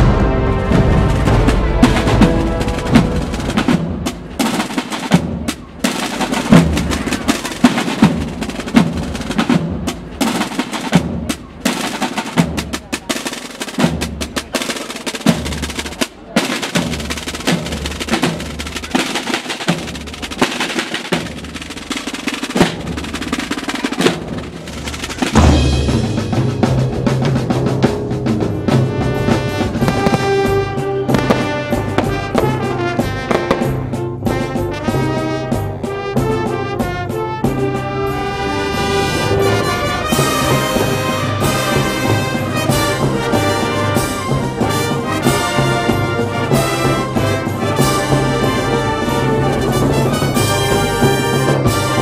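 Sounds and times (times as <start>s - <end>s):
drum-driven soundtrack music: 0.0s - 52.0s.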